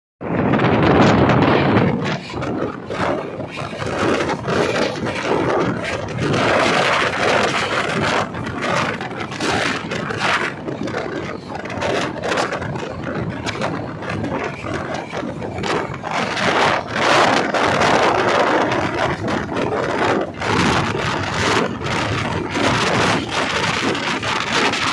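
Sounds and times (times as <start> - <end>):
train wheels rumbling and rattling: 0.2 - 24.9
sharp clacks and knocks: 0.9 - 24.9.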